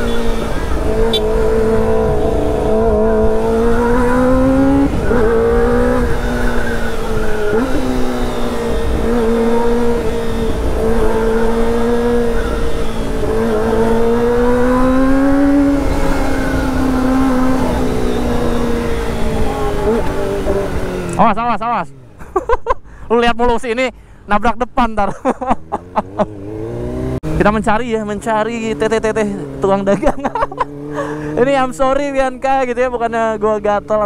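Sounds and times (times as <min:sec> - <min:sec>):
motorcycle engine revving: 0:00.0 - 0:22.5, 0:25.4 - 0:34.0.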